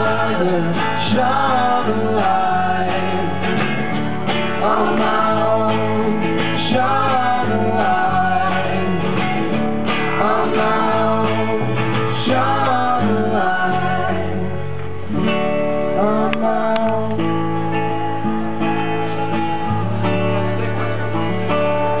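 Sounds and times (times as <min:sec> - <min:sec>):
mandolin: 0:00.0 - 0:22.0
strummed acoustic guitars: 0:00.0 - 0:22.0.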